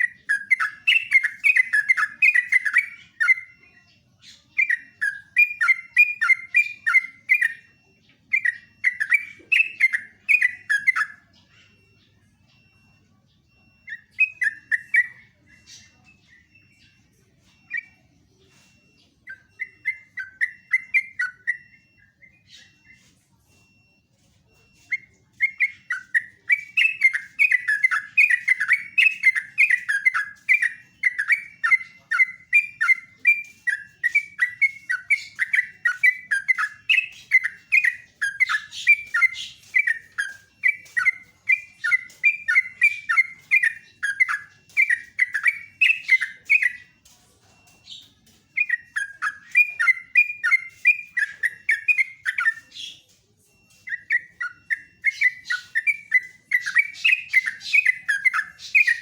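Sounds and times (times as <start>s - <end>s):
bird warbling and chattering: 0.0s - 59.0s.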